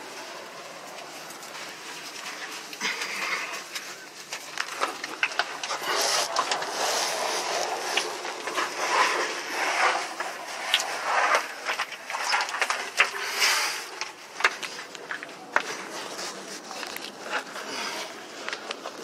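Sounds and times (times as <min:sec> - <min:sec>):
people rustling and scraping on rock: 0:00.0 - 0:19.0.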